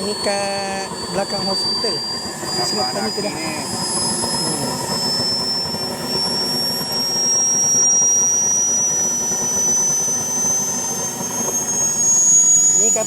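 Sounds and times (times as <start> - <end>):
model airplane engine whining: 0.0 - 13.0.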